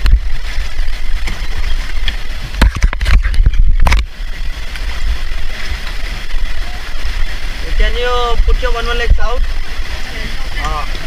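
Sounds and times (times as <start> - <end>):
river water: 0.0 - 11.0
wind rumbling on microphone: 0.0 - 11.0.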